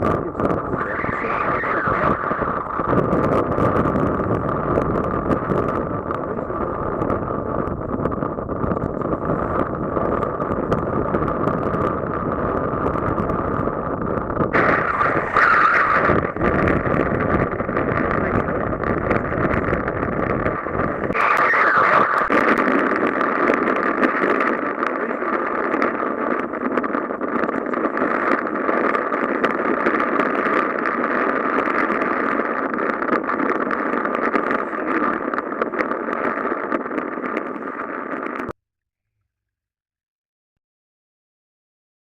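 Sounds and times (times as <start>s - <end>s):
wind blowing over microphone: 0.0s - 38.6s.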